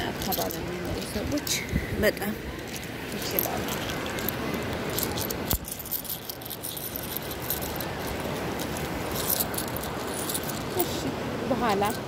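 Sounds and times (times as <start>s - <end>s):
seashells clinking in a hand: 0.0s - 11.0s.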